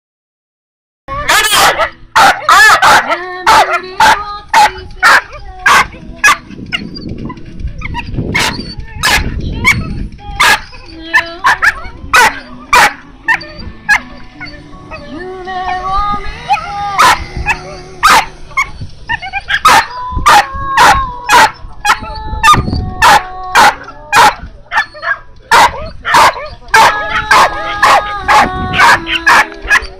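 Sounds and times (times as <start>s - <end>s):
dog barking excitedly: 1.2s - 7.0s, 7.8s - 10.7s, 11.4s - 14.1s, 17.0s - 29.9s.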